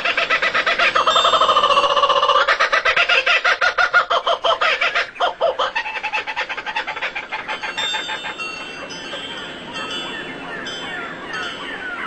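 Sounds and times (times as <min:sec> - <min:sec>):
bird calling in rapid notes: 0:00.0 - 0:12.0.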